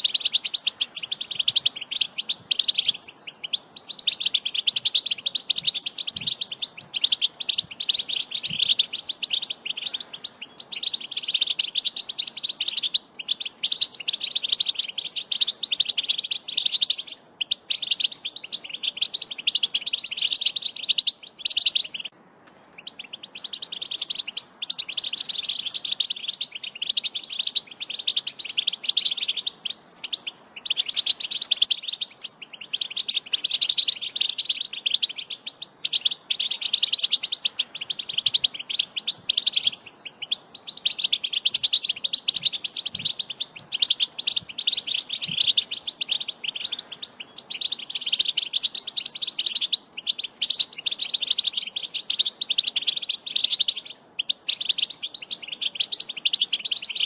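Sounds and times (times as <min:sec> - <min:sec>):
finch twittering song: 0:00.0 - 0:57.0.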